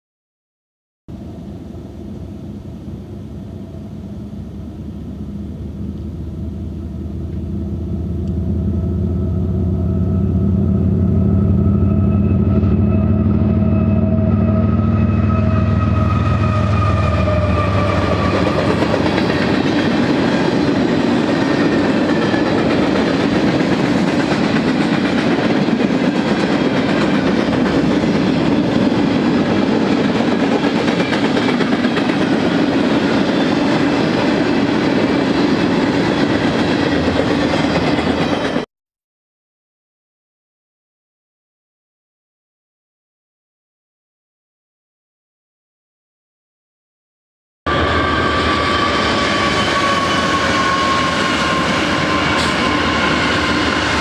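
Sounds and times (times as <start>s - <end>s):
diesel locomotive engine drone: 1.1s - 38.7s, 47.7s - 54.0s
freight cars rumbling on rails: 1.1s - 38.7s, 47.7s - 54.0s.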